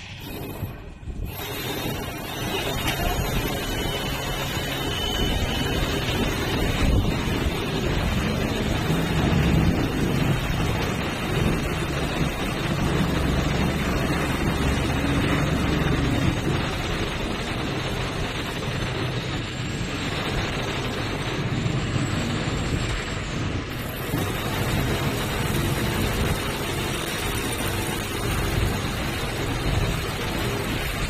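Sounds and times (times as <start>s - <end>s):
low machinery rumble: 0.0s - 31.0s
wind buffeting microphone: 0.0s - 31.0s.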